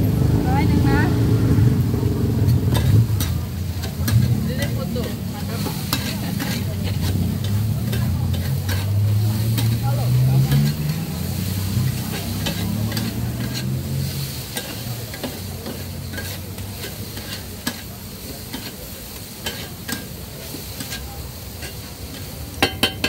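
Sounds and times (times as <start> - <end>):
noodles sizzling: 0.0 - 23.0
metal spatulas scraping griddle: 2.4 - 23.0.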